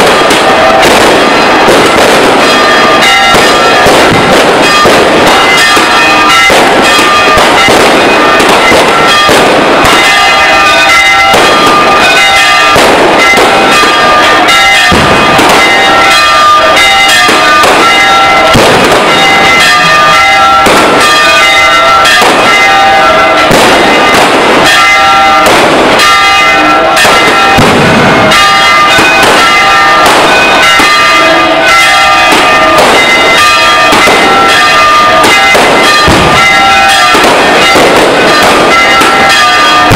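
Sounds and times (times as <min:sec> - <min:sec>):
church bells ringing: 0:00.0 - 0:39.9
fireworks bangs and crackles: 0:00.0 - 0:39.9.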